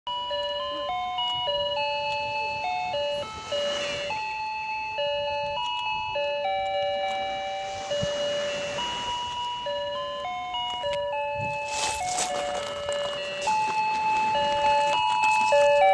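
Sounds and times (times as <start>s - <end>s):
electronic beeping melody: 0.1s - 15.9s.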